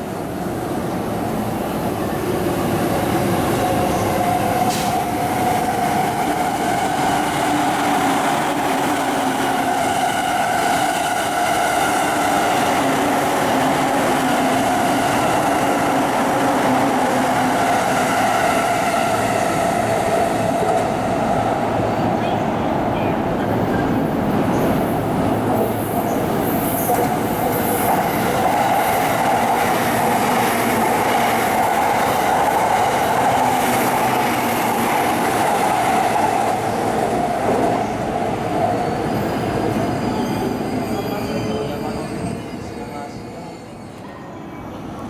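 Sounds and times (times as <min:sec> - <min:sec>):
electric train rumbling past: 0:00.0 - 0:45.0
train whine: 0:00.0 - 0:45.0.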